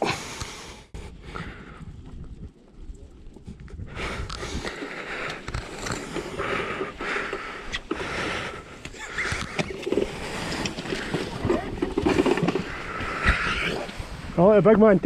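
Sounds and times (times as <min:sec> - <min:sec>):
waterproof clothing rustling: 0:01.7 - 0:15.0.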